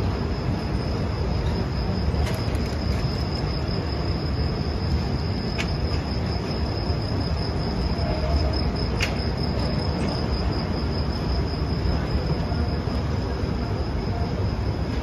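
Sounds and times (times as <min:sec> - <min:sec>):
high-pitched whine: 0:00.0 - 0:15.0
train wheels rumbling on rail: 0:00.0 - 0:15.0.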